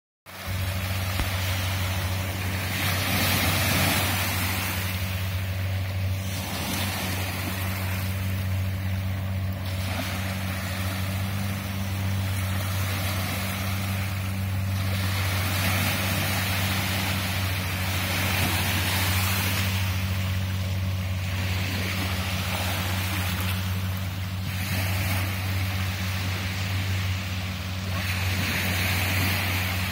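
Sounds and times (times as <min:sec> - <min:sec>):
small waves lapping on beach: 0:00.3 - 0:29.9
steady low hum: 0:00.3 - 0:29.9.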